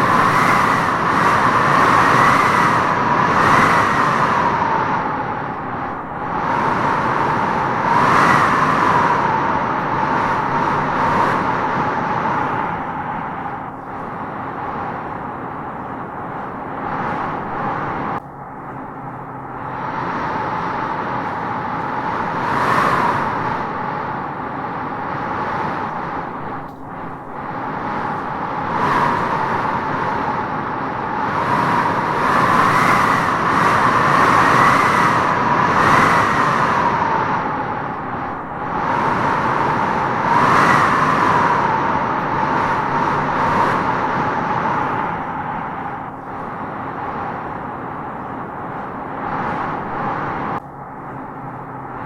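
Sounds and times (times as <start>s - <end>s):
wind howling through trees: 0.0s - 52.0s.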